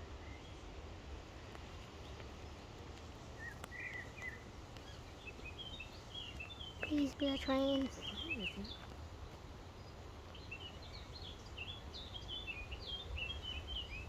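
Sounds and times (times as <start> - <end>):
small birds chirping: 1.5 - 14.0.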